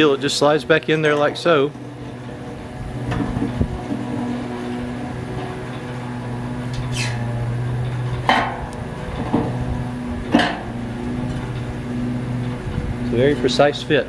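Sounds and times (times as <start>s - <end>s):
steady low hum: 0.0s - 14.0s
metal squeak: 1.1s - 13.7s.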